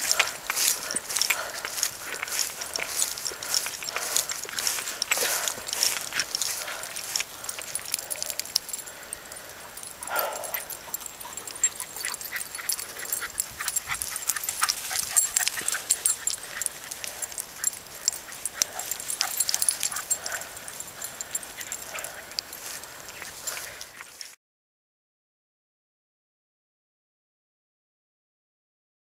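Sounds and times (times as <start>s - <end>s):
sharp clicks and ticks: 0.0s - 24.1s.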